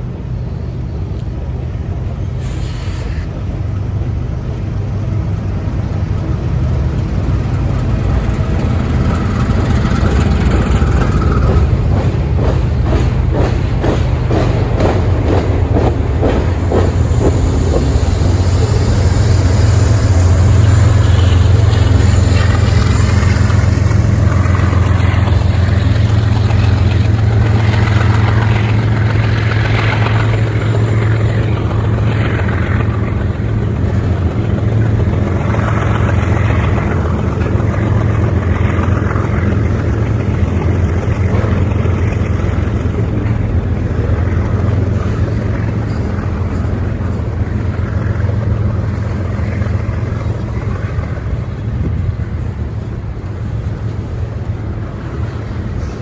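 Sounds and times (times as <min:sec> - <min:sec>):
diesel locomotive engines droning: 0:00.0 - 0:56.0
train wheels rumbling on rail: 0:00.0 - 0:56.0.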